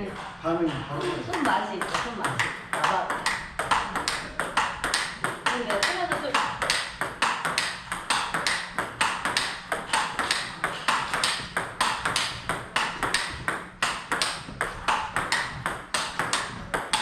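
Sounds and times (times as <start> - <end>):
ball bouncing on table: 0.0 - 17.0
ball hitting paddles: 0.0 - 17.0.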